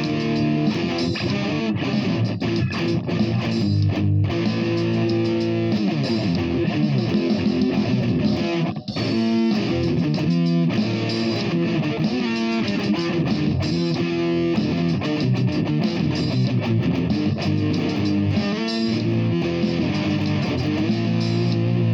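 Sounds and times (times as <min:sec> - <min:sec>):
guitar playing a run of notes: 0:00.0 - 0:21.9.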